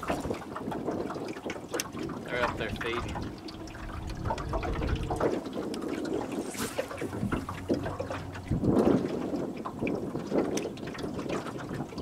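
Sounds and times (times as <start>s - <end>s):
small water splashes: 0.0s - 12.0s
water lapping against boat hull: 0.0s - 12.0s.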